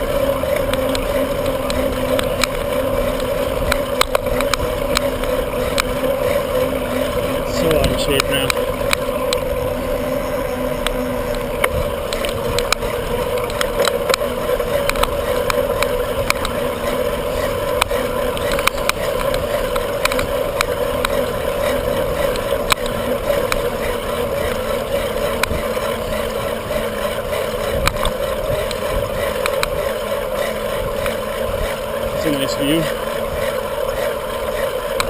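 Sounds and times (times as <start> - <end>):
wind over microphone: 0.0 - 33.5
bicycle clicks and rattles: 0.0 - 35.0.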